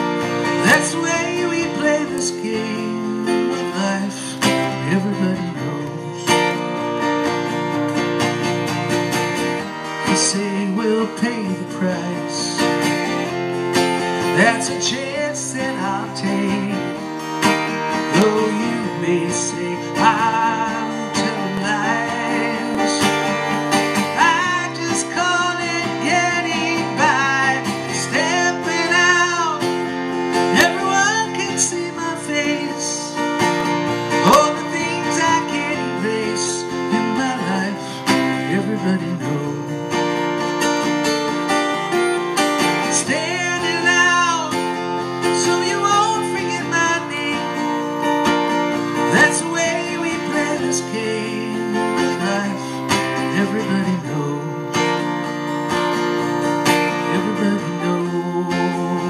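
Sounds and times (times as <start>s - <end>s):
man singing: 0.0s - 7.1s, 9.9s - 13.2s, 14.2s - 40.4s, 42.8s - 55.5s, 56.2s - 59.0s
acoustic guitar strumming: 0.0s - 59.0s.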